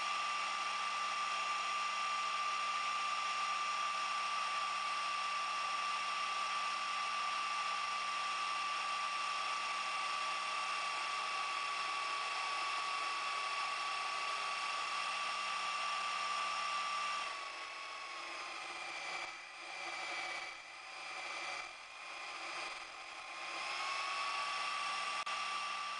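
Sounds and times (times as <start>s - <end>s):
lathe motor whining: 0.0s - 25.9s.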